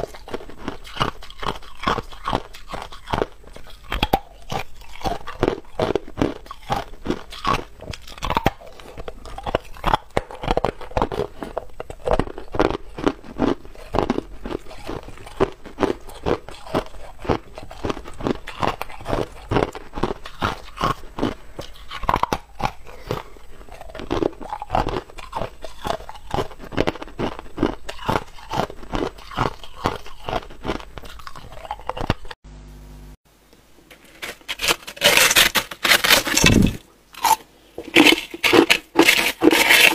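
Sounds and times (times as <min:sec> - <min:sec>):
crunching ice between teeth: 0:00.0 - 0:32.4, 0:34.1 - 0:39.9.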